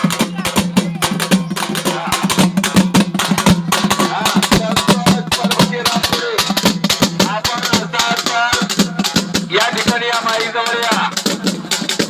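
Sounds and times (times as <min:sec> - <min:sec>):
fast live drumming: 0:00.0 - 0:12.0.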